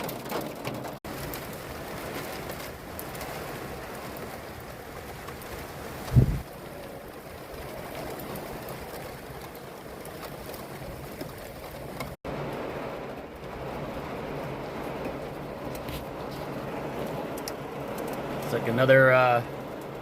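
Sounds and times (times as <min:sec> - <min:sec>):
rain drumming on a van: 0:00.0 - 0:20.0.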